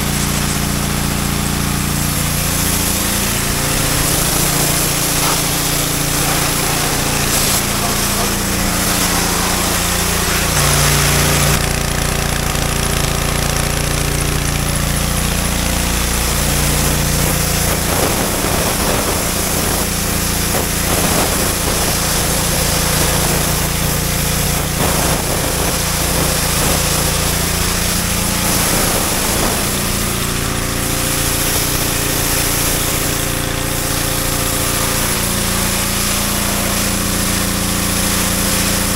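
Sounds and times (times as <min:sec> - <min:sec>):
pressure washer motor hum: 0:00.0 - 0:38.9
water jet hissing on concrete: 0:00.0 - 0:38.9.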